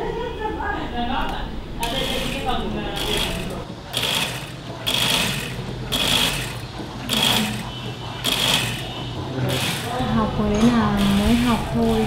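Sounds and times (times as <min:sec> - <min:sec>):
sewing machine stitching: 0:01.8 - 0:12.0.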